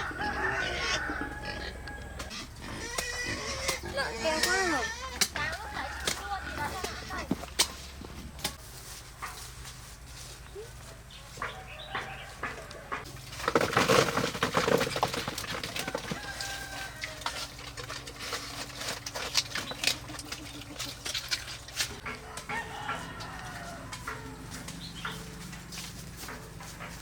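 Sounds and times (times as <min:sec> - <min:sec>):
chickens clucking and calling: 0:00.0 - 0:08.6, 0:09.3 - 0:27.0.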